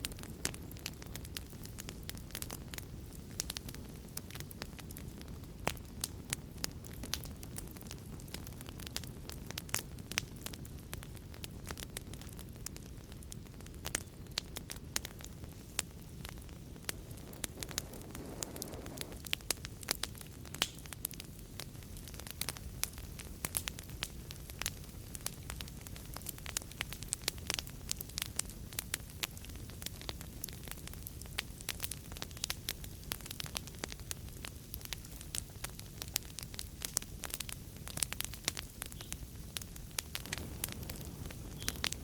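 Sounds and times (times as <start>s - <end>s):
fire pops and snaps: 0.0s - 42.0s
low rumble of flames: 0.0s - 42.0s
wood fire crackling: 0.0s - 42.0s.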